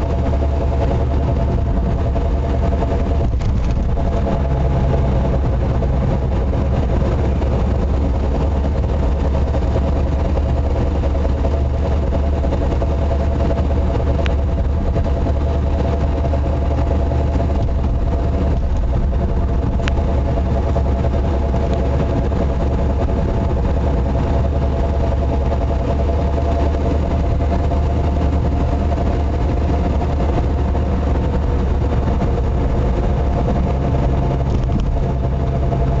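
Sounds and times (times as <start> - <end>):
car engine driving drone: 0.0 - 36.0.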